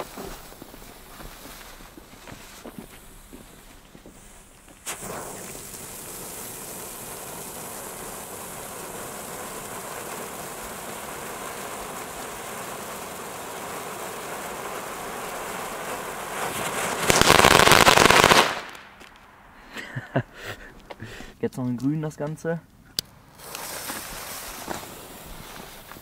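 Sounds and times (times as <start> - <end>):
firework crackling burst: 0.0 - 21.0, 23.2 - 26.0
firework fountain hissing: 0.0 - 21.1, 23.2 - 26.0.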